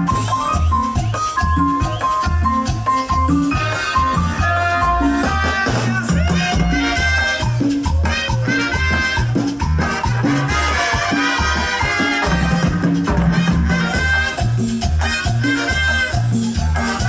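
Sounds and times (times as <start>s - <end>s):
bass line: 0.0s - 17.0s
shaker percussion: 0.0s - 17.0s.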